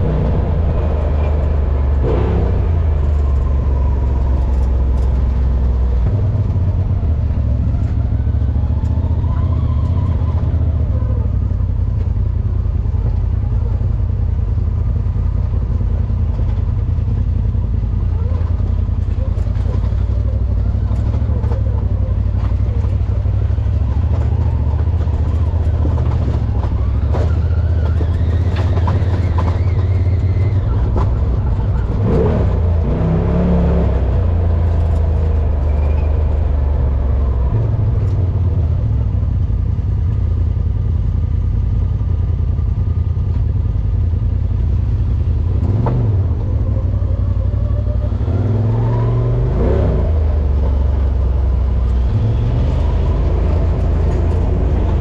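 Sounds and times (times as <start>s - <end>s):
vehicle engine revving: 0.0s - 12.2s, 14.9s - 40.4s, 44.3s - 55.0s.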